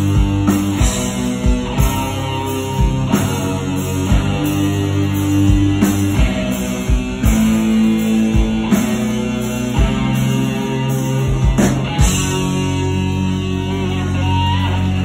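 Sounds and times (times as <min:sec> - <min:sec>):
bass guitar: 0:00.0 - 0:15.0
drums: 0:00.0 - 0:15.0
electric guitar lead: 0:00.0 - 0:15.0.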